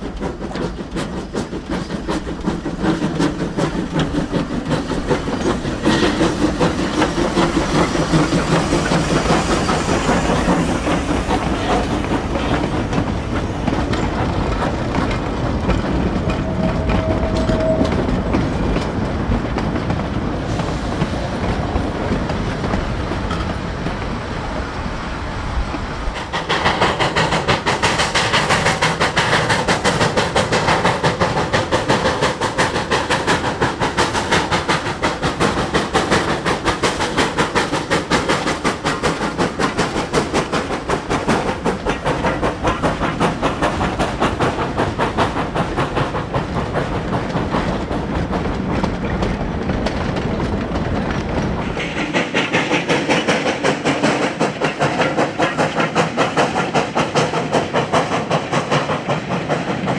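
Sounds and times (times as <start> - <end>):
steam locomotive working: 0.0 - 59.9
train cars rolling over rails: 0.0 - 59.9.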